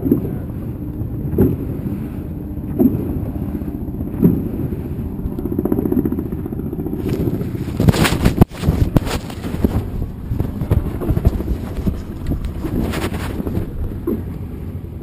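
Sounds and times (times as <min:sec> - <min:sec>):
muffled motorboat engine rumble: 0:00.0 - 0:15.0.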